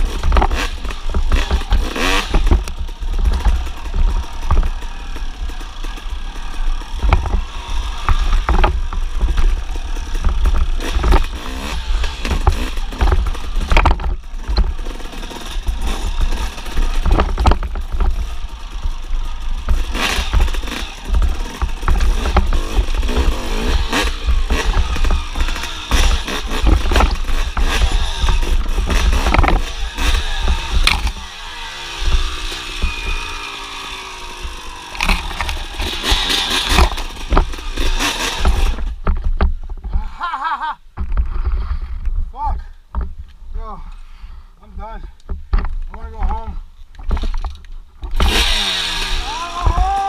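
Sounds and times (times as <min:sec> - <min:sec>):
knocks and clatter: 0:00.0 - 0:31.3, 0:34.4 - 0:40.1, 0:40.9 - 0:42.3, 0:42.9 - 0:43.4, 0:45.2 - 0:48.7
dirt bike engine revving: 0:00.0 - 0:42.0, 0:45.6 - 0:50.0.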